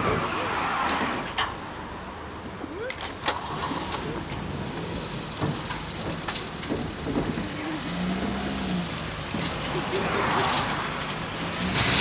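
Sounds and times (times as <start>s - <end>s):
outdoor noise hiss: 0.0s - 12.0s.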